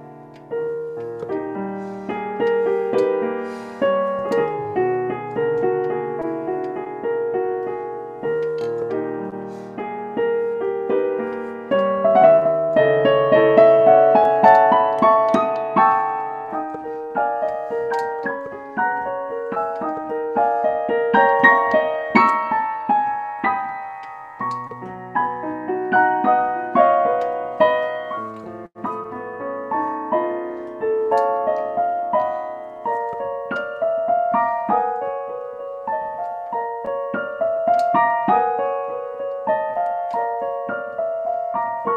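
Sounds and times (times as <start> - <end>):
classical piano piece: 0.0 - 41.9.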